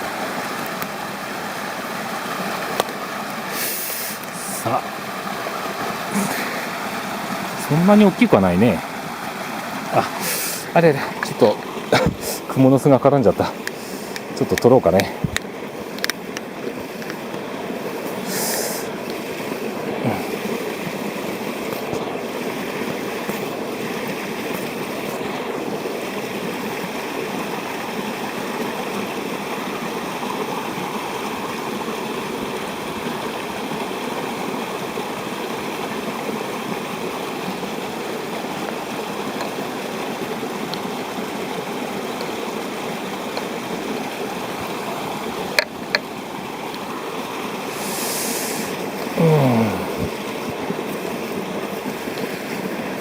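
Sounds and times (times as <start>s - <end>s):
mountain stream rushing: 0.0s - 53.0s.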